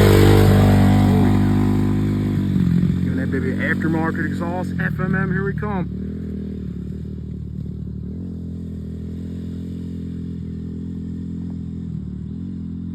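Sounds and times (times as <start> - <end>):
dirt bike engine idling: 0.0 - 12.9.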